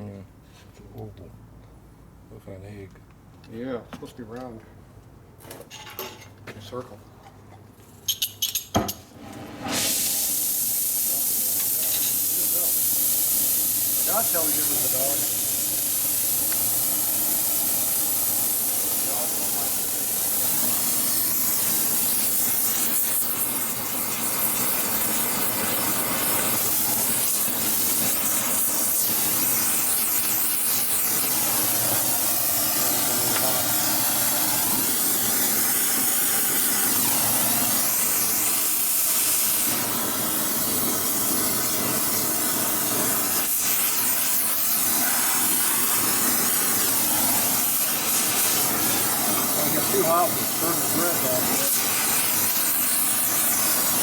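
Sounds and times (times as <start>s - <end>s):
gas torch flame hissing: 9.2s - 54.0s.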